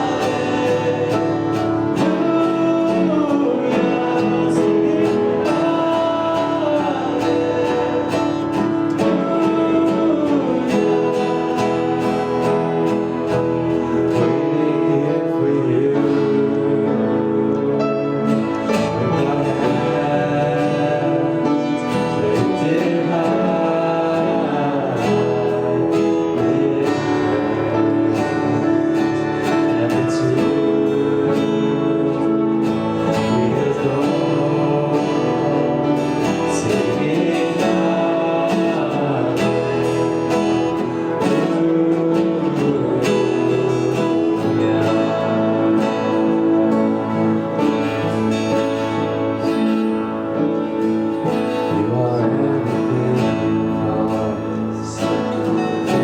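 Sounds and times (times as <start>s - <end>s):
acoustic guitar strumming: 0.0s - 56.0s
faint singing: 0.0s - 56.0s
worship band music: 0.0s - 56.0s.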